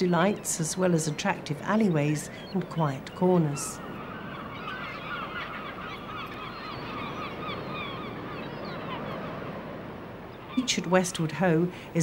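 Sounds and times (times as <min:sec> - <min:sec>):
flock of birds calling: 0:00.0 - 0:11.5.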